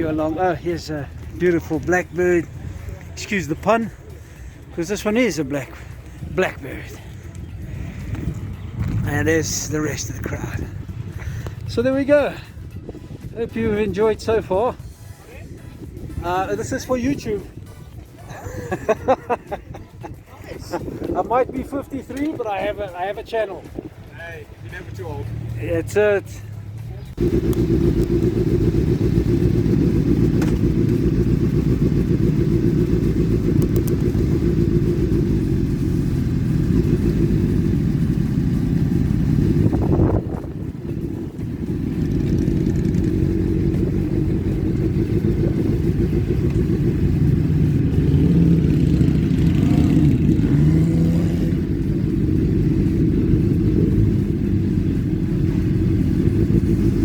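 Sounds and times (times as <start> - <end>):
motorcycle engines rumbling: 0.0 - 57.0.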